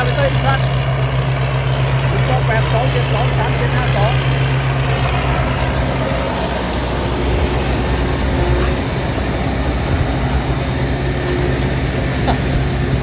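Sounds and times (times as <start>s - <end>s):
harvester engine drone: 0.0s - 13.0s
thin high whine: 0.0s - 13.0s.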